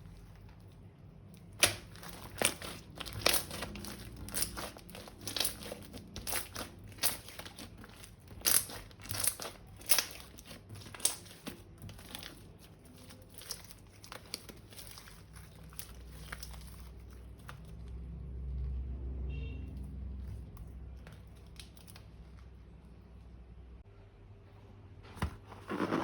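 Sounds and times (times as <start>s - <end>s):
slime crinkling and crackling: 0.0s - 18.8s, 20.2s - 23.0s.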